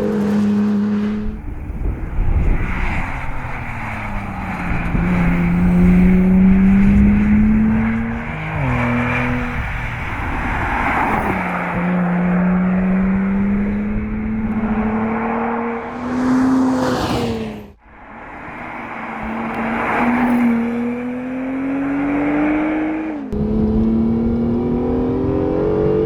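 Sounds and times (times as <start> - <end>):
sports car engine accelerating: 0.0 - 26.0.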